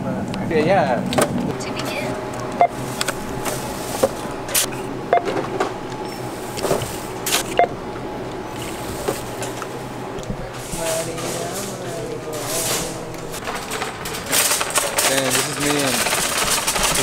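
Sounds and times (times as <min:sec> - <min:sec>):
steady store hum: 0:00.0 - 0:17.0
groceries clicking and knocking: 0:02.2 - 0:17.0.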